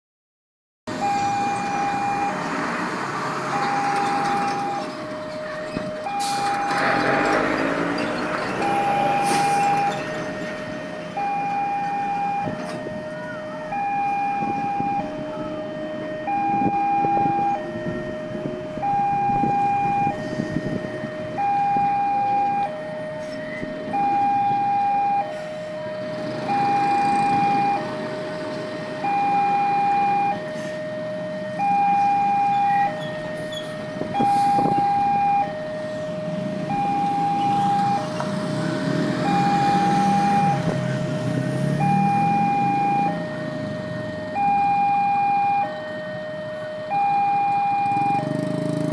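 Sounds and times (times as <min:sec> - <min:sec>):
road traffic: 0:00.9 - 0:48.9
two-tone crossing alarm: 0:00.9 - 0:48.9.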